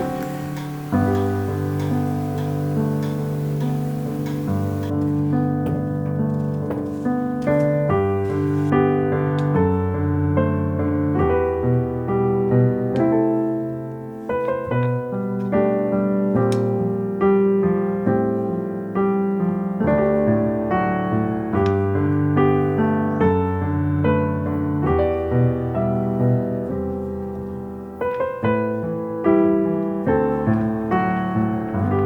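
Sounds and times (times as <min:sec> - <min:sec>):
soft piano music: 0:00.0 - 0:32.0.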